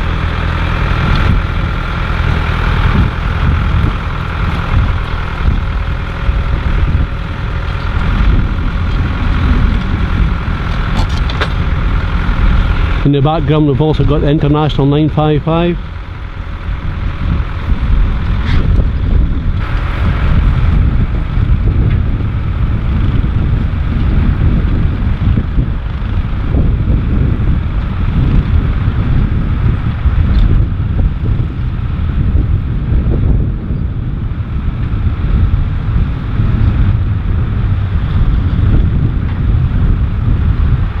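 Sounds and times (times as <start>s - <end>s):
tractor engines running: 0.0s - 41.0s
wind buffeting microphone: 0.0s - 41.0s.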